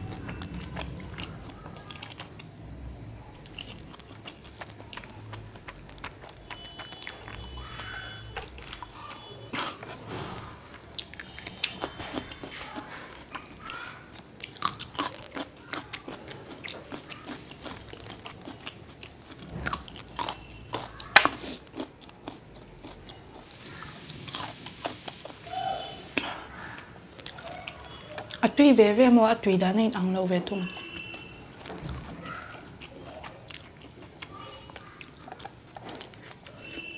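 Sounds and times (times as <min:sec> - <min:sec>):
chewing noodles: 0:00.0 - 0:10.0, 0:10.6 - 0:28.4, 0:30.6 - 0:36.9.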